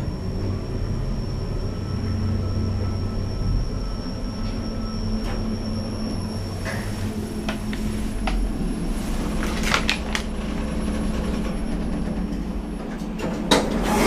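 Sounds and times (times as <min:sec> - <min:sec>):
low rumble: 0:00.0 - 0:13.2
lift machine hum: 0:00.0 - 0:14.0.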